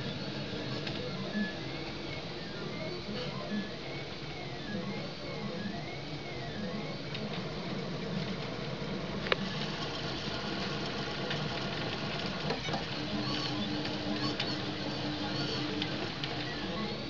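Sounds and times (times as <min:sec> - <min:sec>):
stepper motors whirring: 0:00.0 - 0:17.0.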